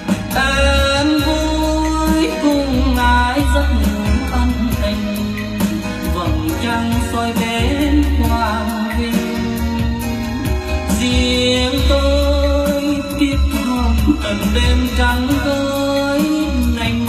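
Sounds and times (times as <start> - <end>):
song with singing and deep bass: 0.0 - 17.0.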